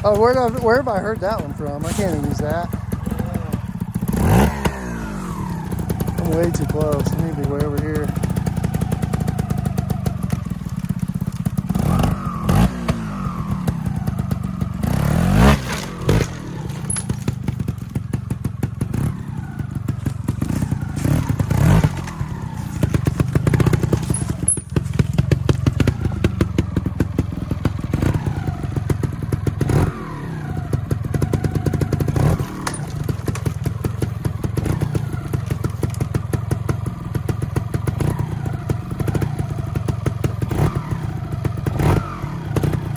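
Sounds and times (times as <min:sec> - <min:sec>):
motorcycle engine throttle blips: 0:00.0 - 0:42.9
motorcycle striking rock: 0:00.0 - 0:42.9.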